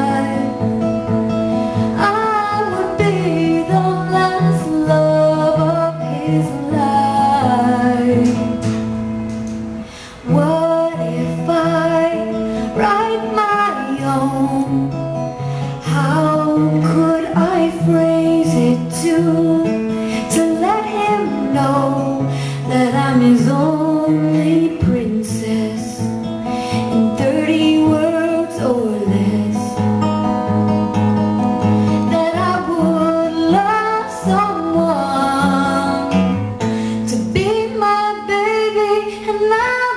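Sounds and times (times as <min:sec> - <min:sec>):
woman singing: 0:00.0 - 0:08.9, 0:10.2 - 0:31.0, 0:31.6 - 0:39.9
strummed acoustic guitar: 0:00.0 - 0:39.9.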